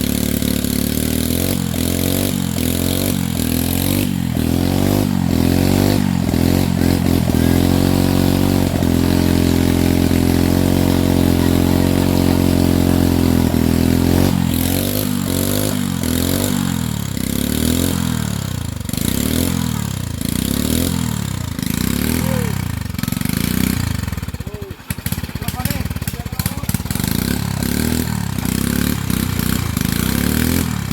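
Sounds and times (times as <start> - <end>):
chainsaw revving: 0.0 - 30.9.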